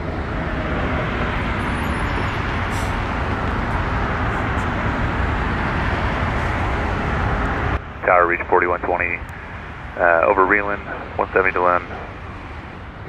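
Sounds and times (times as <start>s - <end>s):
outdoor rumble and hiss: 2.1s - 13.0s.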